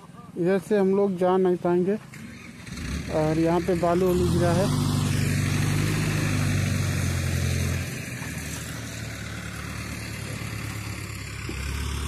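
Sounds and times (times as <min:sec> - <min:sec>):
engine idling: 0:02.1 - 0:12.0.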